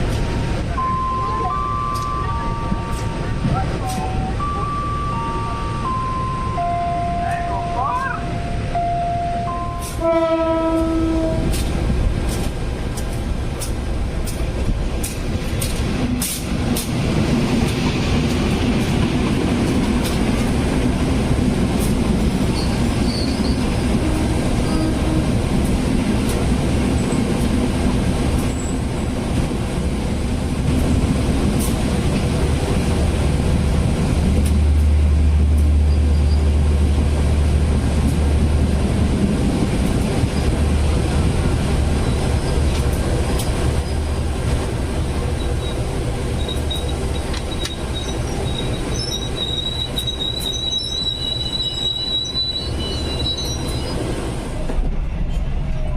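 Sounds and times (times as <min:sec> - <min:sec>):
locomotive low drone: 0:00.0 - 0:55.9
train running gear rumble: 0:00.0 - 0:55.9.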